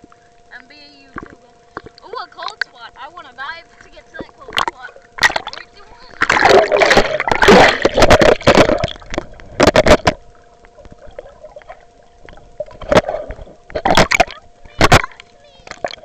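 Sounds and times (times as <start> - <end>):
muffled water splashing: 0.0 - 16.0
water gurgling: 0.0 - 16.0.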